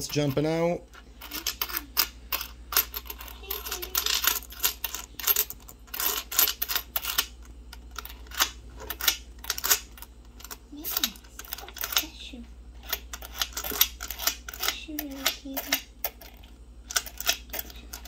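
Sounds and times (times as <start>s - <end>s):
coins clicking together: 1.2s - 12.1s, 12.8s - 18.0s.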